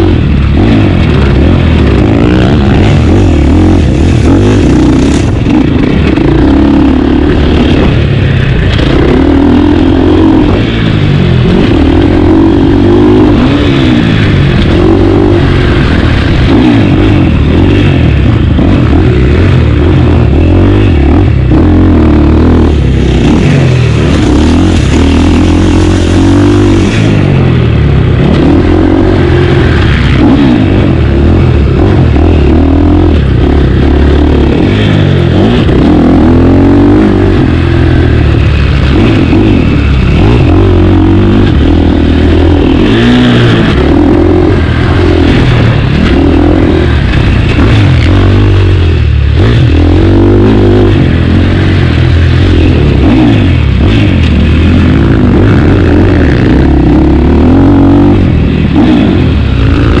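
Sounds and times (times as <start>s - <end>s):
motocross bike engine revving: 0.0s - 60.0s.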